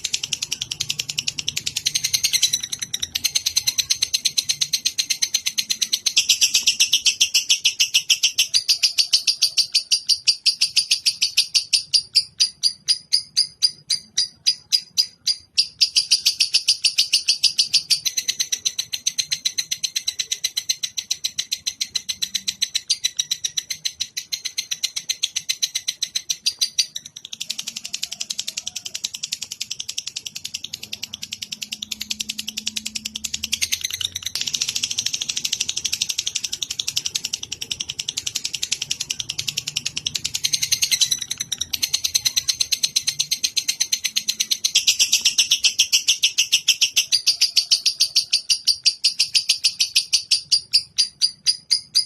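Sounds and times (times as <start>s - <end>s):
recorded songbird chirping: 0.0s - 52.0s.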